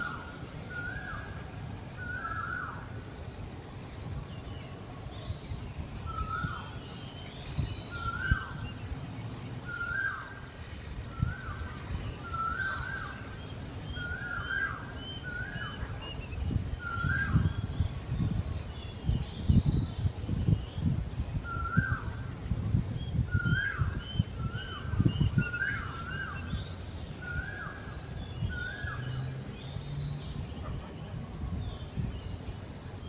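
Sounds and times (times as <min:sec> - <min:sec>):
bird whistled call: 0:00.0 - 0:03.0, 0:06.0 - 0:08.9, 0:09.6 - 0:10.5, 0:11.1 - 0:22.3, 0:23.0 - 0:32.6.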